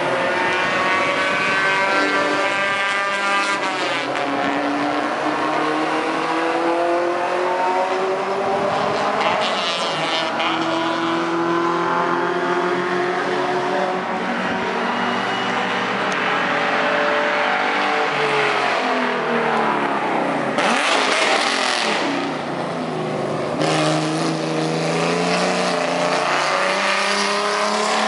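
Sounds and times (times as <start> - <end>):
race cars passing at high revs: 0.0 - 28.0.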